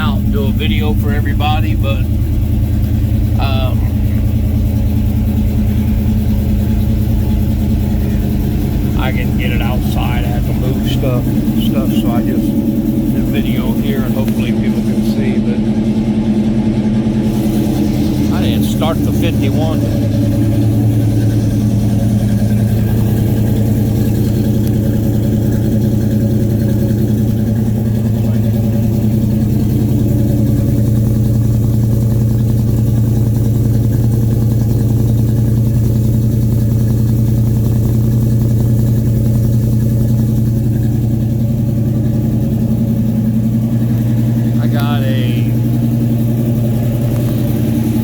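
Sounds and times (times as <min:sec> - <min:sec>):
pickup truck engine idling: 0:00.0 - 0:48.0.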